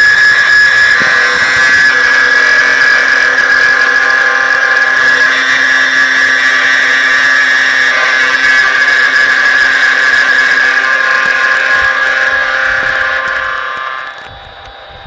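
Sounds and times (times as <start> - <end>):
router spindle milling metal: 0.0 - 14.9.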